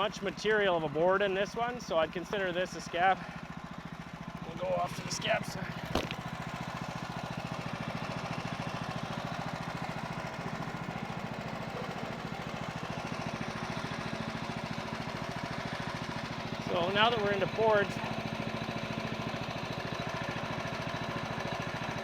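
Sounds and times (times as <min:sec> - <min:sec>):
single-cylinder engine running: 0:00.0 - 0:22.0.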